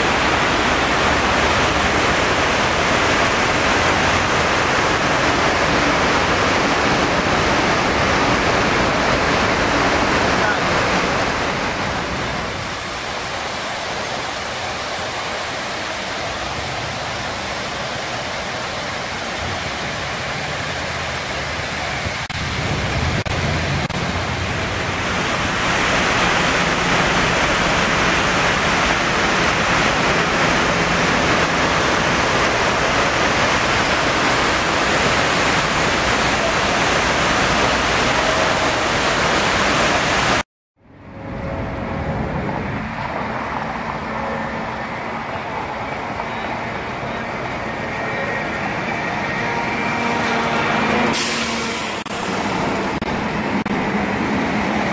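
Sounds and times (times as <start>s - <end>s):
waterfall rushing: 0.0s - 40.4s, 41.8s - 54.9s.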